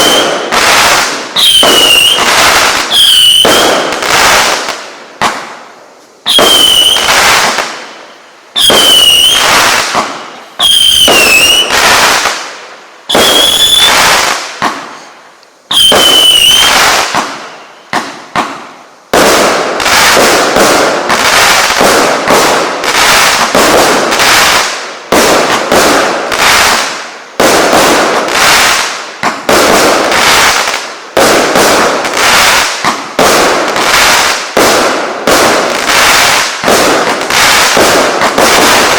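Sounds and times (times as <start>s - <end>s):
fireworks bursts: 0.0s - 38.9s
fireworks shots with whistles: 0.0s - 38.9s.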